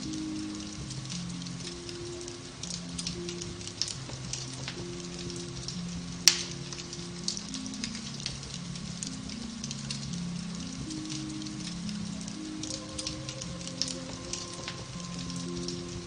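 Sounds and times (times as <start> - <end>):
soft music with low notes: 0.0 - 16.0
wood fire crackling: 0.0 - 16.0.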